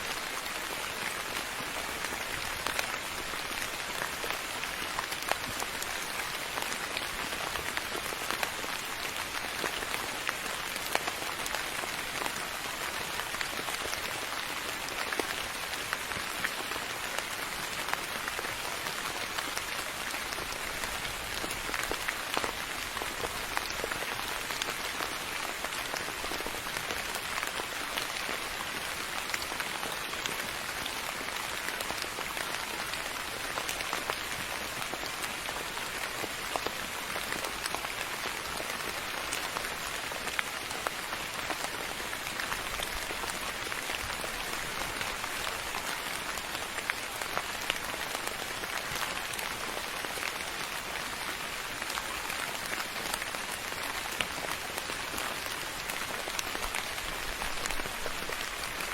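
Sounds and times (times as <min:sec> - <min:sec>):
rain hissing on a surface: 0:00.0 - 0:58.9.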